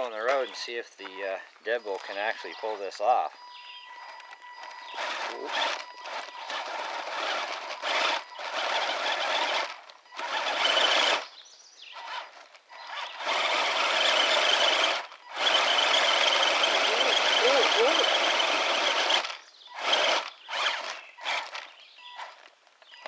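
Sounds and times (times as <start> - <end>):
electric motor whining under load: 2.3 - 23.0.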